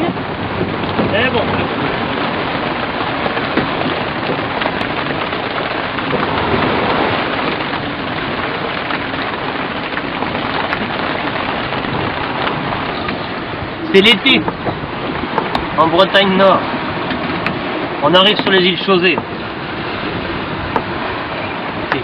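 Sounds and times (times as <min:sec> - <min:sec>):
wind rushing: 0:00.0 - 0:21.9
sea waves: 0:00.0 - 0:22.0.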